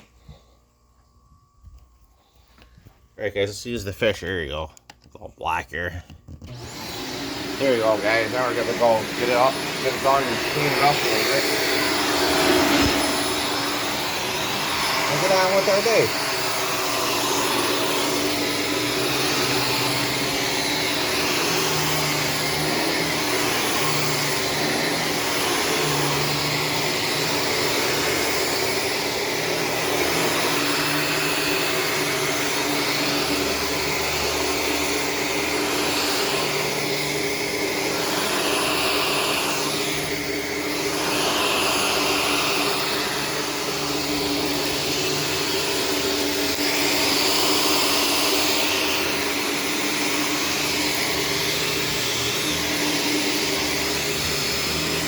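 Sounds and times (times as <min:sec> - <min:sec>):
vacuum cleaner running: 0:00.0 - 0:04.6, 0:05.4 - 0:55.0.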